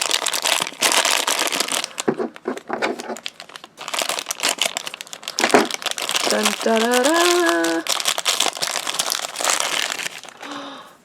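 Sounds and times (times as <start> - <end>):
plastic wrapping crinkling: 0.0 - 10.8.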